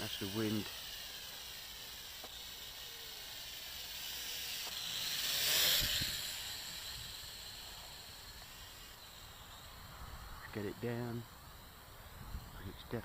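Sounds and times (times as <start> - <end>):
toy drone high hiss: 0.0 - 13.0.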